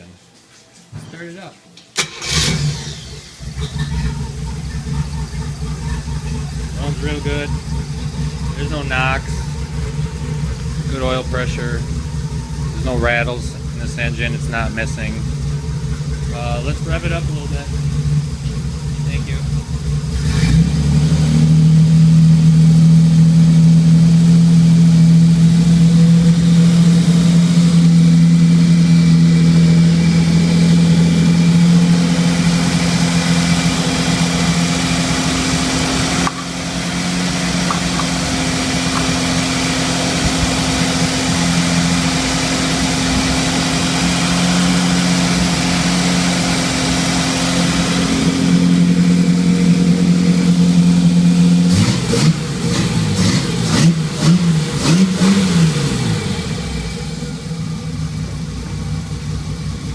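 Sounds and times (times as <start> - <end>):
boat engine running at raised revs: 3.8 - 59.0.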